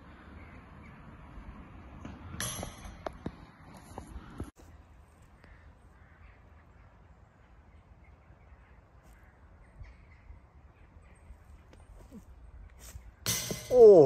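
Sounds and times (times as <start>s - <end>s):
distant bird calls: 0.0s - 2.4s, 4.3s - 14.0s.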